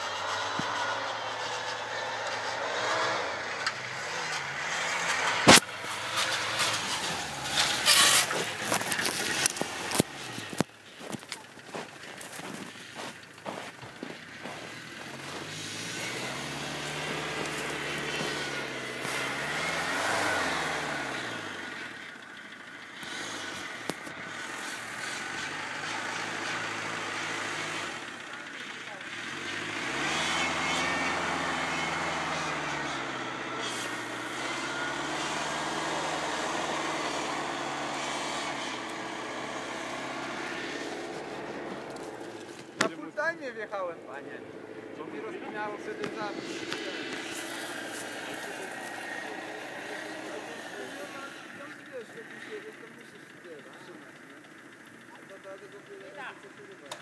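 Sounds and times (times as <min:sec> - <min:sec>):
suv engine revving: 0:00.0 - 0:57.0.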